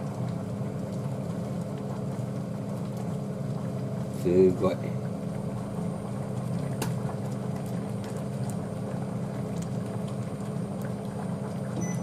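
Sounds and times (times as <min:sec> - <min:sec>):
broth simmering in saucepan: 0:00.0 - 0:12.0.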